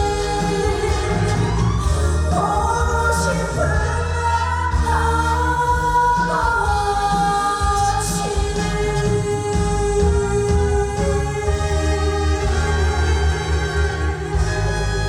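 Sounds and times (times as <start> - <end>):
band backing with bass: 0.0 - 15.0
person singing long sliding notes: 0.0 - 15.0.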